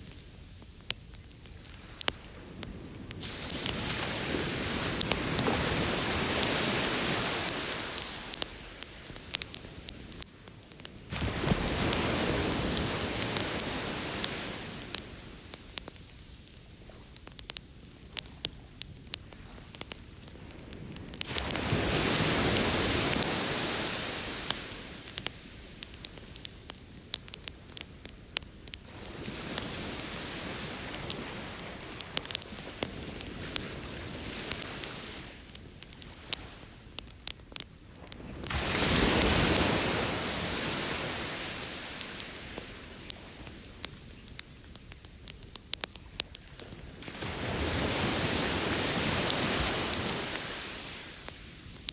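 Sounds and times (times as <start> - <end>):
campfire crackling: 0.0 - 51.9
ocean waves washing ashore: 1.2 - 17.2, 17.9 - 51.9.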